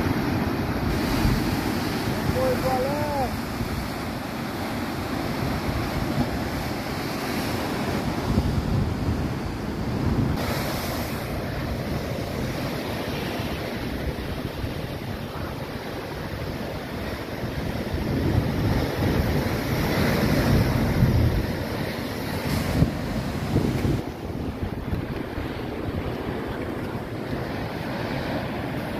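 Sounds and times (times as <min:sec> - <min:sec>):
surf breaking against rocks: 0:00.0 - 0:28.9
wind buffeting microphone: 0:00.0 - 0:28.9.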